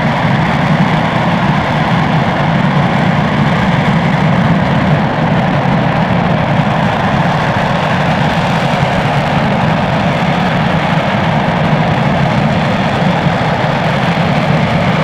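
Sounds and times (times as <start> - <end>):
rocket engine roaring: 0.0 - 15.0.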